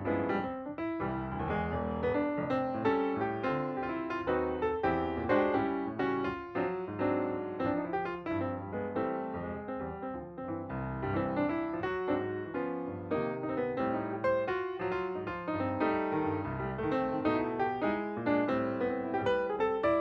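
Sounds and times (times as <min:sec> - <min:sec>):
solo piano playing: 0:00.0 - 0:20.0.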